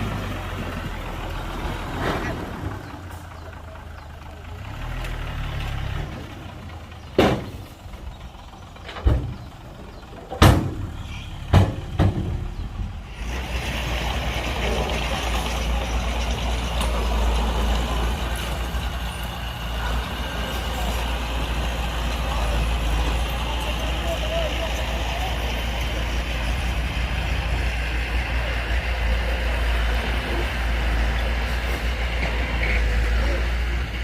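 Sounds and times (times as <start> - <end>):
heavy diesel machinery running: 0.0 - 34.0.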